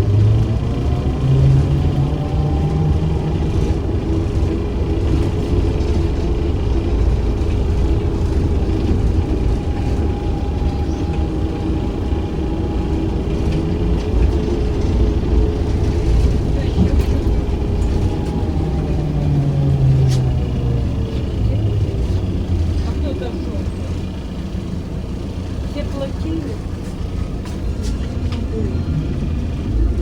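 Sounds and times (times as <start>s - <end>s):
low road rumble: 0.0s - 30.0s.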